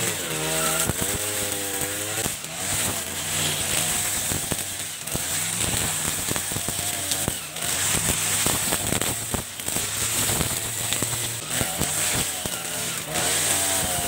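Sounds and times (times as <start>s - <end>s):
brush cutter engine drone: 0.0s - 14.0s.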